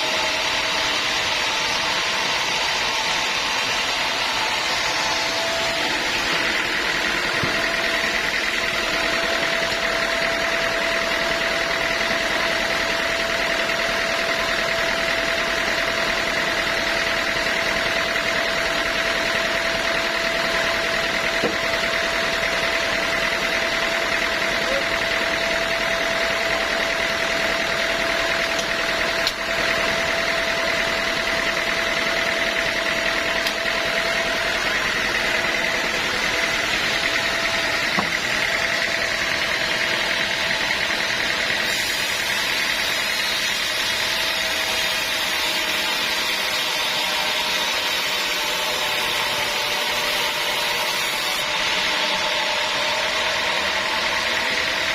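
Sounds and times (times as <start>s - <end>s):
sawmill machinery whining: 0.0s - 54.9s.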